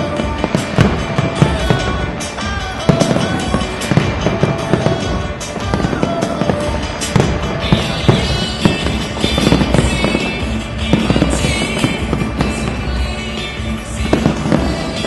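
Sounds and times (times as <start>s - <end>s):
fireworks bursting: 0.0s - 15.0s
fireworks crackling: 0.0s - 15.0s
music: 0.0s - 15.0s.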